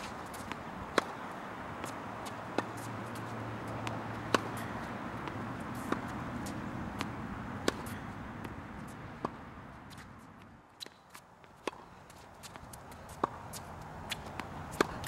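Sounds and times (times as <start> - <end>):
racket hitting tennis ball: 0.0 - 15.0
tennis ball bouncing on court: 0.0 - 15.0.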